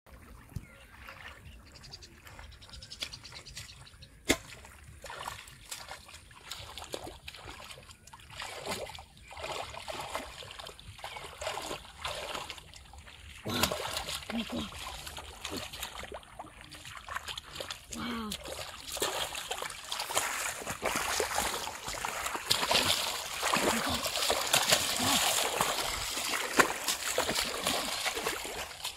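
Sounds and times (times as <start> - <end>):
hands splashing in muddy water: 2.3 - 28.9.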